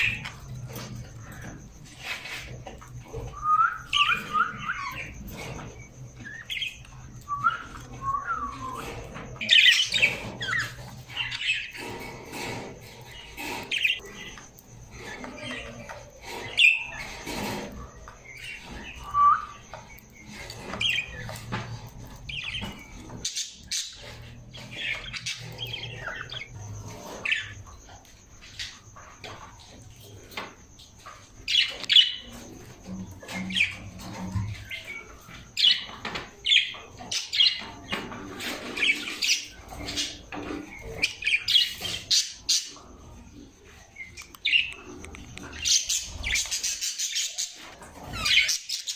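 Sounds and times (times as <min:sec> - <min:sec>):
parrots squawking and chirping: 0:00.0 - 0:29.6, 0:30.4 - 0:48.9.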